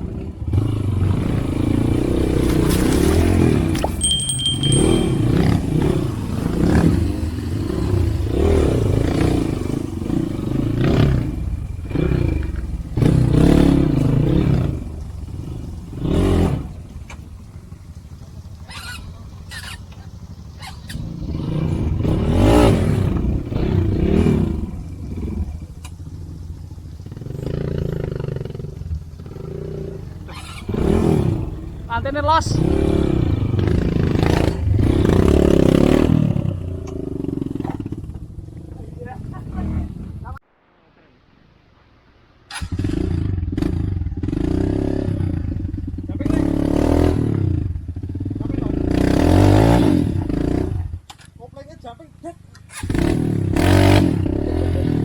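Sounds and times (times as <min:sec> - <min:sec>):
motorcycle engine revving: 0:00.0 - 0:40.4, 0:42.5 - 0:55.0.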